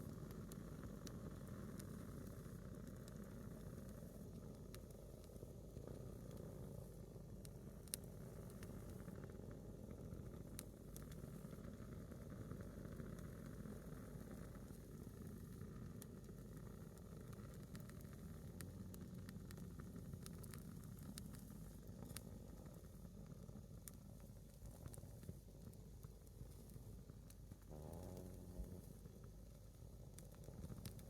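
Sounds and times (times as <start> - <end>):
fire crackling and popping: 0.0 - 31.0
low steady rumble: 0.0 - 31.0.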